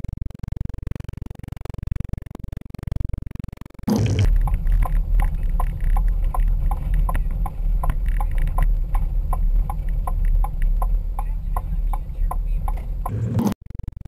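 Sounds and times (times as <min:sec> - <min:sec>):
even ticking: 0:00.0 - 0:14.0
road and engine rumble: 0:00.0 - 0:14.0.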